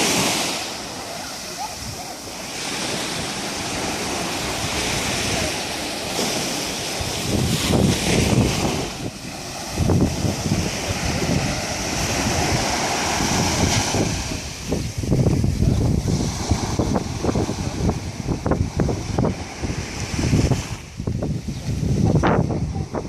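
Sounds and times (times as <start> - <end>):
waves washing onto beach: 0.0 - 23.0
wind buffeting microphone: 0.0 - 23.0.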